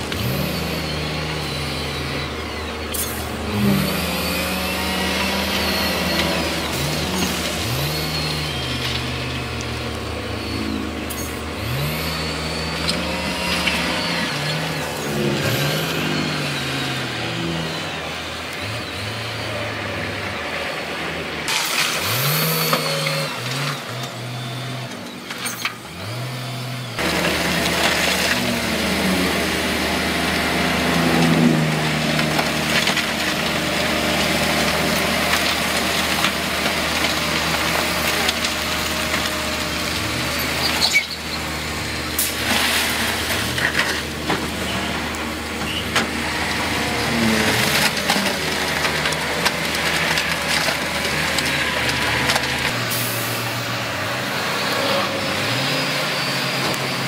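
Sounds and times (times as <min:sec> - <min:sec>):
heavy machine diesel engines revving: 0:00.0 - 0:57.0.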